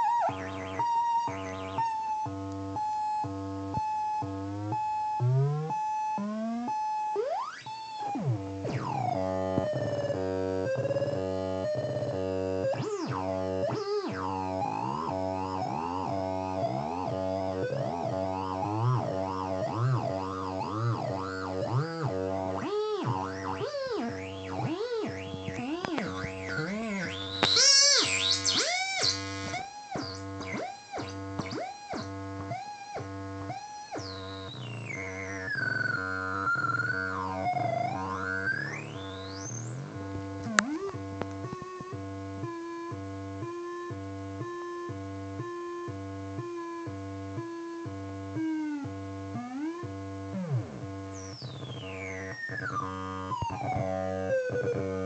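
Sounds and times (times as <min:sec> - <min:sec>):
synthesizer buzz and pitch swoops: 0:00.0 - 0:44.6.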